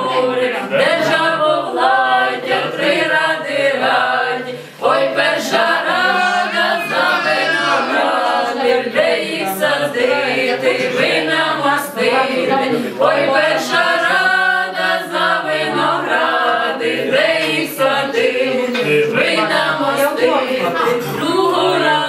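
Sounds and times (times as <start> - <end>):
group singing unaccompanied: 0.0 - 22.0.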